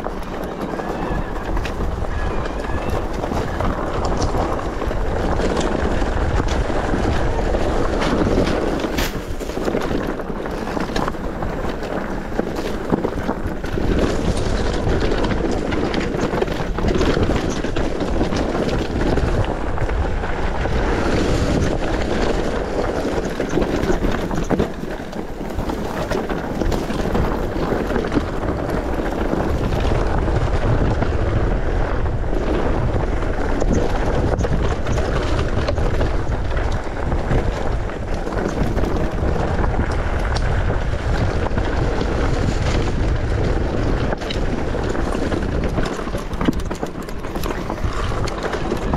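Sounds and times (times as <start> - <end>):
bike knocks and rattles: 0.0 - 48.9
tyres rumbling over rough trail: 0.0 - 48.9
wind buffeting microphone: 0.0 - 48.9.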